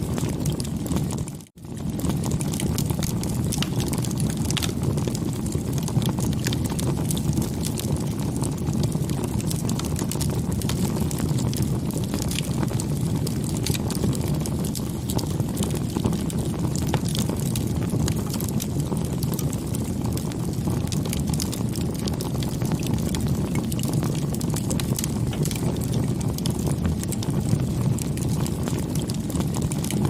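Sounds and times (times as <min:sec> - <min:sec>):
rush of flame: 0:00.0 - 0:30.0
wood crackling and popping: 0:00.0 - 0:30.0.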